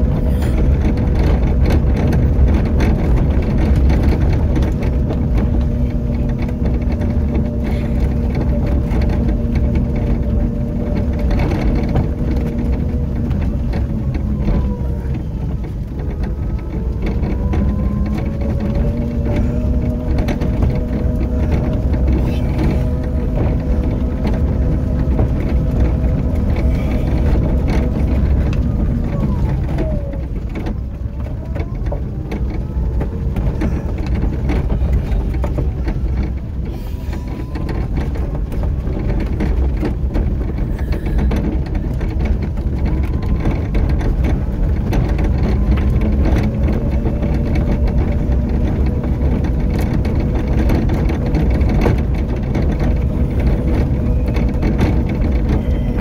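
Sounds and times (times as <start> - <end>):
electric motor whining: 0.0 - 56.0
small clicks and rattles: 0.0 - 56.0
wheels rumbling on rough ground: 0.0 - 56.0.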